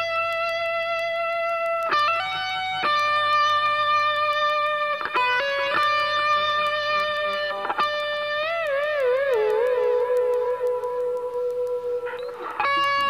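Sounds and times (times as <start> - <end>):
slow guitar melody: 0.0 - 13.0.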